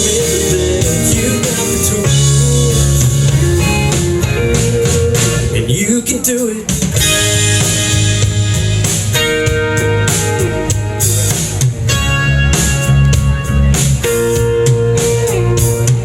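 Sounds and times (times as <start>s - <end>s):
country band instrumental: 0.0s - 16.0s.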